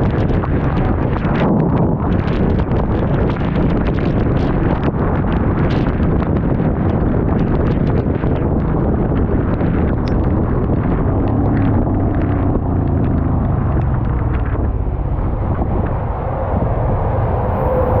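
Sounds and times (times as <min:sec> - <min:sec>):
motorcycle engine running: 0:00.0 - 0:16.6
wind buffeting microphone: 0:00.0 - 0:18.0.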